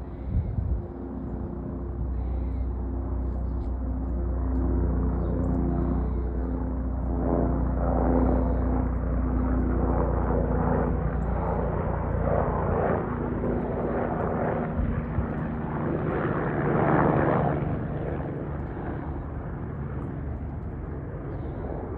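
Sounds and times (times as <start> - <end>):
helicopter running: 0.0 - 21.9.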